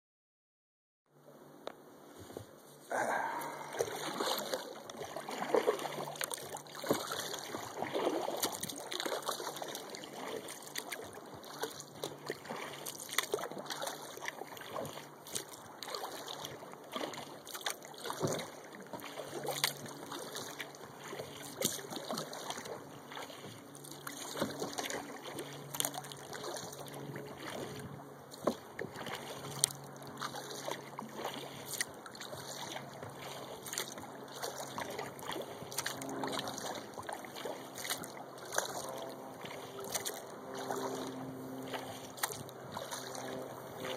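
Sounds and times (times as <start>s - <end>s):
water lapping at hull: 1.2s - 43.9s
paddle splashing water: 2.1s - 43.9s.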